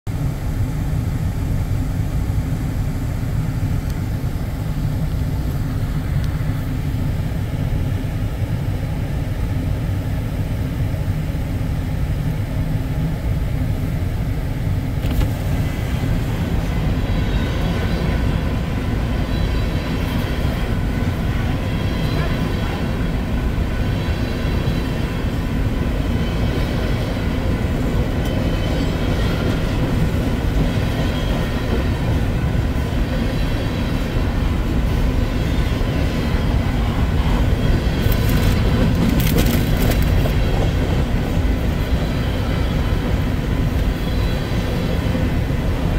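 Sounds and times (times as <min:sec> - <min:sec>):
train wheels rumbling on rail: 0:00.1 - 0:45.9.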